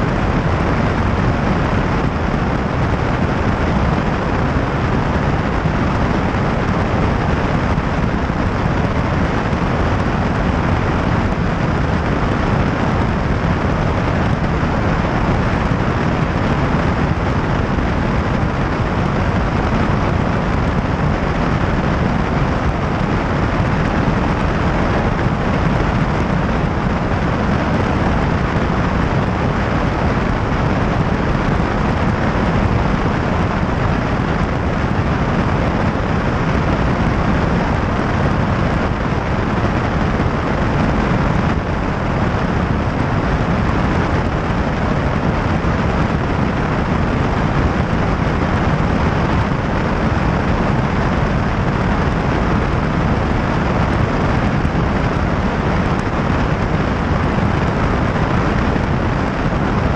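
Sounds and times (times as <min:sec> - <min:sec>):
light aircraft engine: 0:00.0 - 0:59.9
wind hitting microphone: 0:00.0 - 0:59.9.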